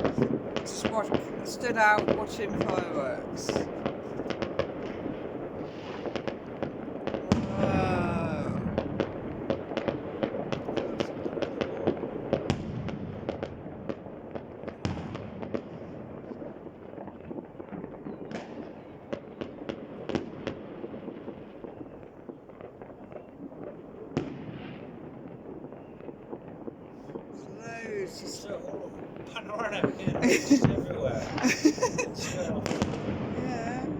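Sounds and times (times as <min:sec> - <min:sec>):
fireworks crackling: 0:00.0 - 0:33.9
loud firework bangs: 0:00.0 - 0:33.9.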